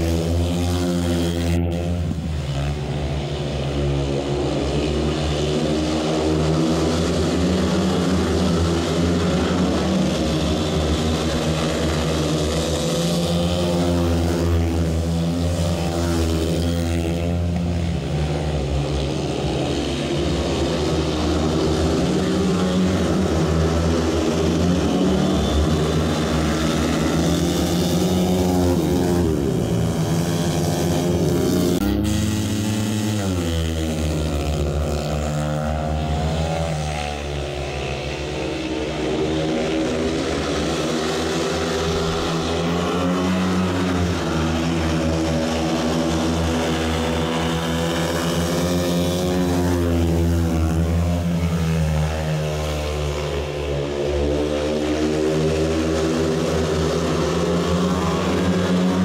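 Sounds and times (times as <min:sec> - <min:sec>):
motorcycle engines racing: 0:00.0 - 0:59.0.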